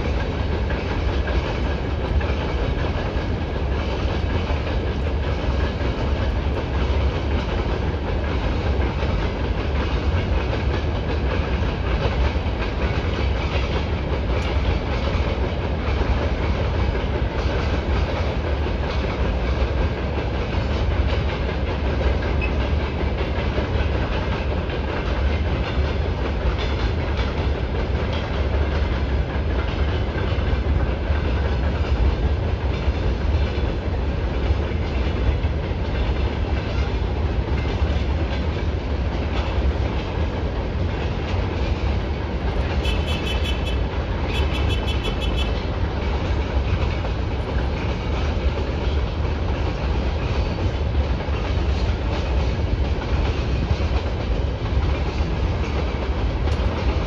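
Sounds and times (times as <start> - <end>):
freight train rumbling: 0.0 - 57.0
wheels clacking over rail joints: 0.0 - 57.0.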